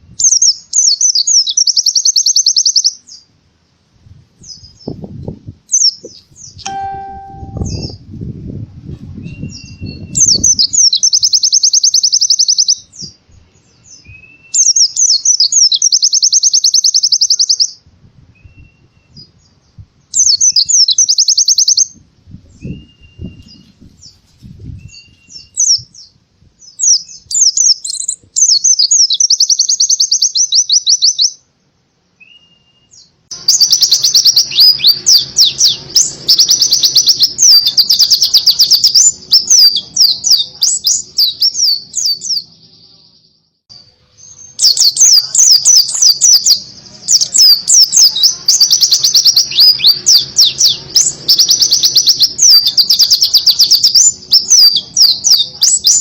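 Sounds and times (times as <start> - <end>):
bird singing fast trills: 0.2 - 3.3, 5.7 - 8.1, 9.3 - 17.8, 18.4 - 24.2, 24.8 - 31.4, 32.2 - 43.6, 44.2 - 56.0.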